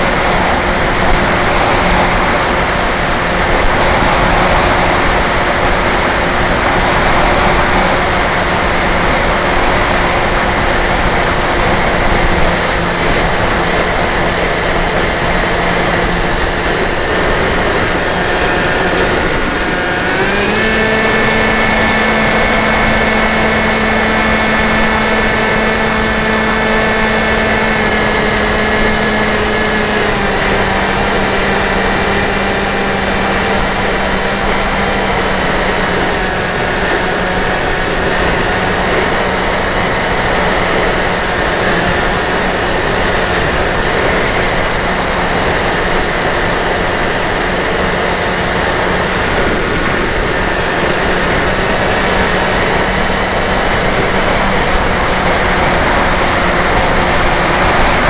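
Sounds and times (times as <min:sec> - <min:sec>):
model plane motor whine: 0:00.0 - 0:58.0
rushing air: 0:00.0 - 0:58.0.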